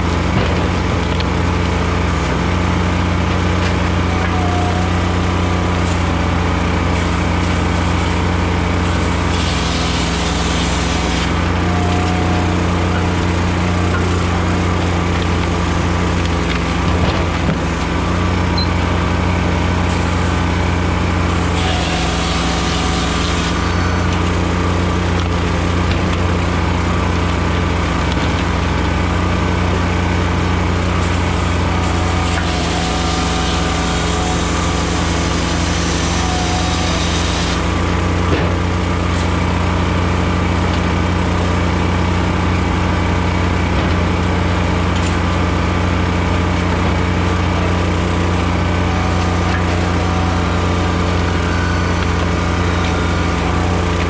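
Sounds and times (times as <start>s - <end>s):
firewood processor humming: 0.0s - 54.0s.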